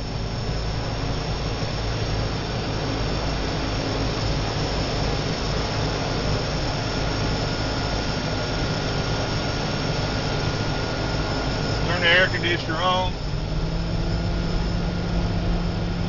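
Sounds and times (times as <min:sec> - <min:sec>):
faint high whine: 0:00.0 - 0:16.0
turboprop engines running: 0:00.0 - 0:16.0.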